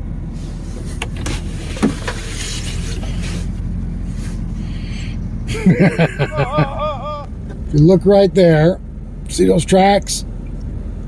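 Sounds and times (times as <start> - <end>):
truck engine drone: 0.0 - 11.0.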